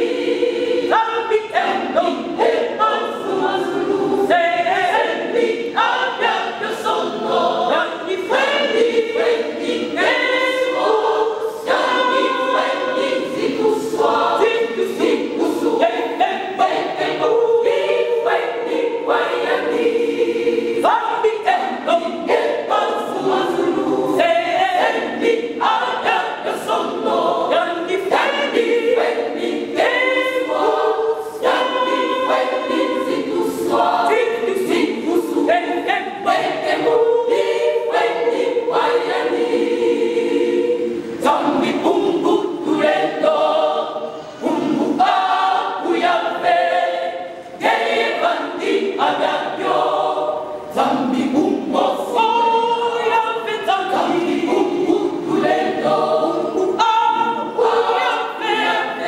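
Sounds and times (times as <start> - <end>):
women's choir singing a cappella: 0.0 - 59.0.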